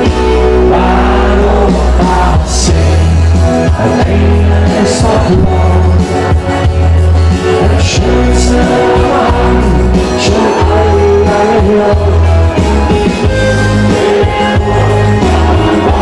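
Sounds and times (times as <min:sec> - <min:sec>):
crowd singing along: 0:00.0 - 0:16.0
live party band music: 0:00.0 - 0:16.0.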